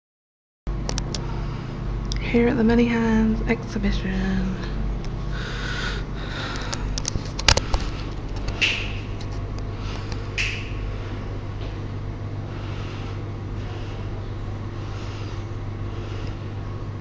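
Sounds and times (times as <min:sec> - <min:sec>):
low hum: 0:00.7 - 0:17.0.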